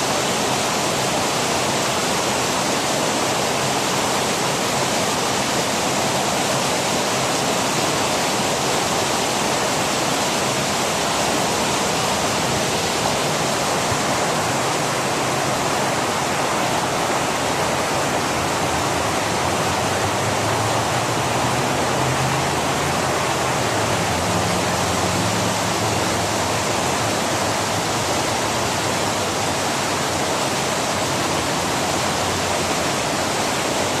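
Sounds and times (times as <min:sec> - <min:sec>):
fountain water splashing: 0:00.0 - 0:34.0.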